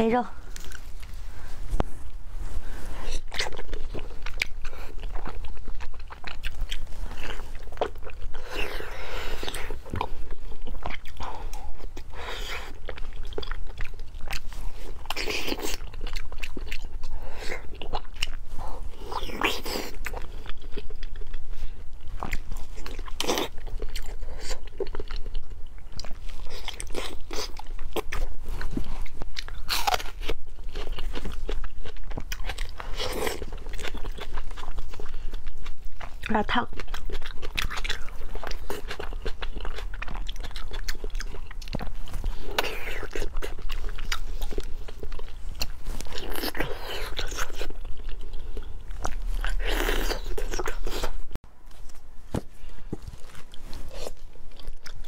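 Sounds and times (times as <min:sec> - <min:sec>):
person biting and chewing: 0:00.5 - 0:01.2, 0:03.0 - 0:52.0, 0:53.0 - 0:55.0.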